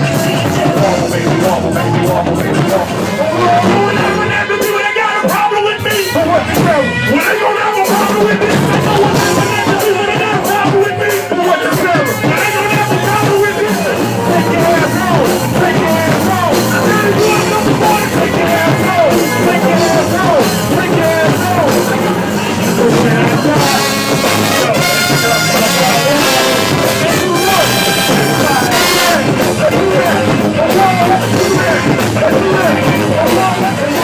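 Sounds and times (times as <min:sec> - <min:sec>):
live band playing dance music: 0:00.0 - 0:34.0.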